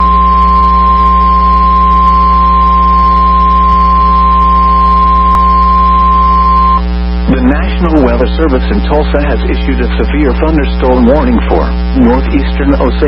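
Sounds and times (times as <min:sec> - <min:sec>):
steady warning alarm tone: 0:00.0 - 0:12.9
low hum: 0:00.0 - 0:13.0
radio static: 0:00.0 - 0:13.0.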